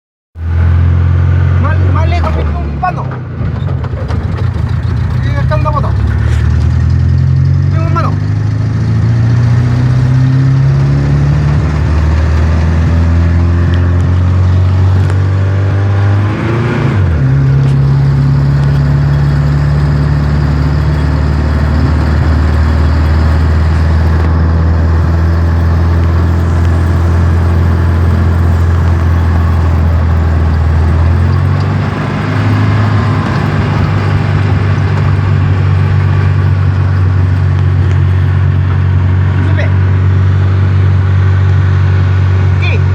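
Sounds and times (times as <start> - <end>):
car engine idling: 0.4 - 42.9.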